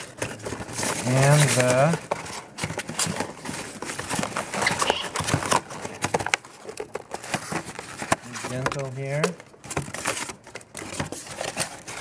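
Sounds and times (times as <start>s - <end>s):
cardboard packaging handled: 0.0s - 12.0s.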